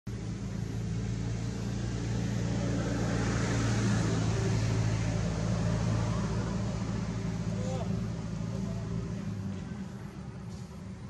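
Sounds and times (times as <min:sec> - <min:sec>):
motor engine hum: 0:00.1 - 0:11.0.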